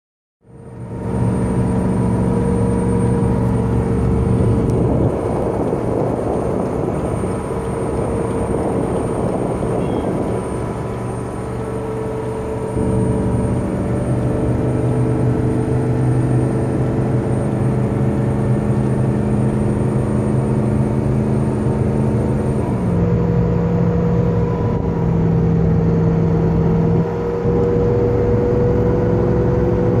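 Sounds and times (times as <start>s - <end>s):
engine and road noise: 0.4s - 30.0s
engine cooling fan whirring: 0.5s - 30.0s.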